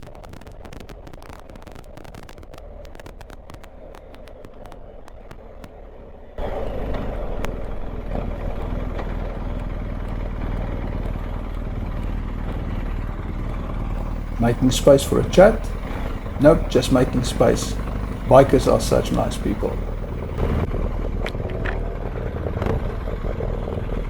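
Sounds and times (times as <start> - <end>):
motorcycle engine rumble: 2.4 - 24.0.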